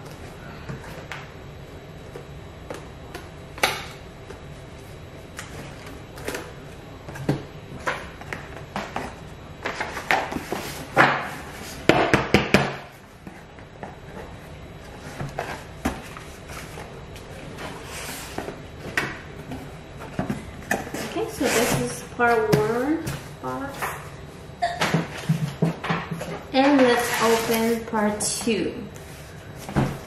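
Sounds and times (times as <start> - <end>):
boxes being handled and packed: 2.0 - 24.2, 24.8 - 30.0.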